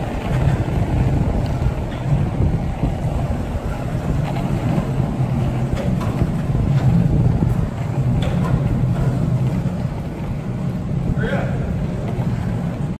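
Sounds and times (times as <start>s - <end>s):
skateboard wheels rolling on concrete: 0.0s - 12.9s.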